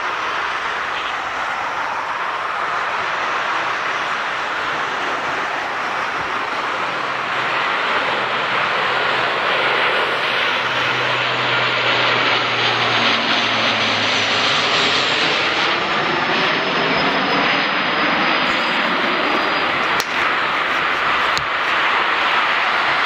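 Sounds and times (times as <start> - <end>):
turboprop airliner passing overhead: 0.0 - 23.0.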